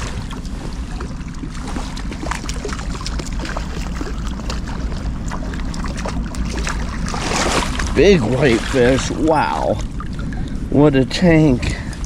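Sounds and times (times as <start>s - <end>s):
fish splashing at surface: 0.0s - 10.5s
river water running: 0.0s - 12.0s.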